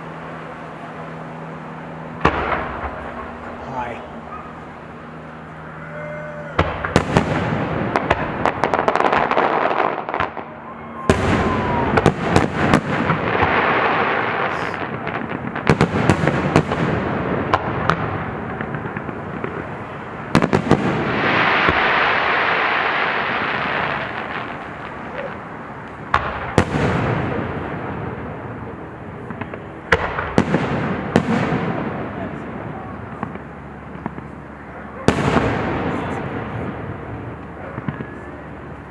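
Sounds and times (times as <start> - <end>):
fireworks crackling and popping: 0.0 - 5.6, 6.4 - 38.9
fireworks bangs: 0.0 - 38.9.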